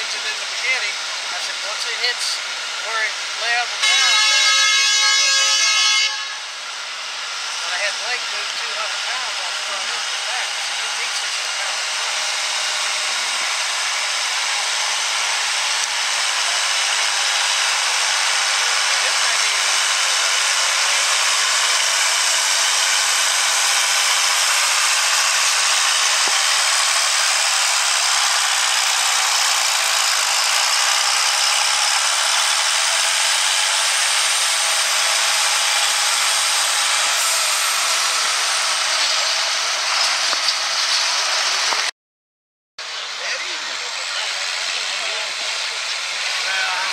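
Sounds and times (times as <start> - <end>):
tractor diesel engine under load: 0.0 - 4.0, 6.6 - 41.9, 42.8 - 46.9.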